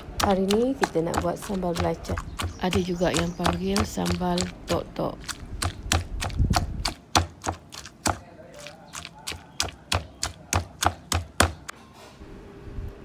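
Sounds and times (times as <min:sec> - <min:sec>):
stone pestle pounding in mortar: 0:00.0 - 0:11.7.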